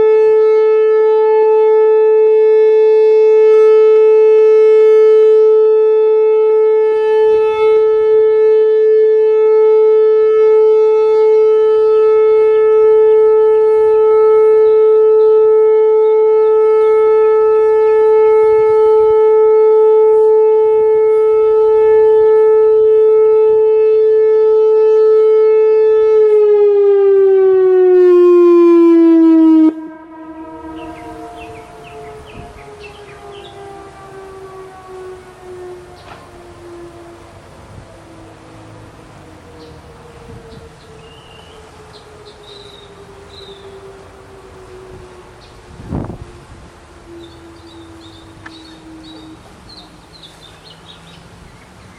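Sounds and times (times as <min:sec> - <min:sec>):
electronic warning siren: 0:00.0 - 0:51.9.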